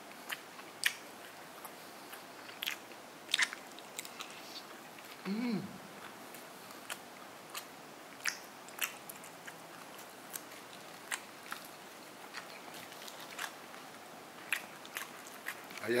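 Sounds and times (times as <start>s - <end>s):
crispy chewing crunches: 0.0s - 5.3s, 6.0s - 16.0s.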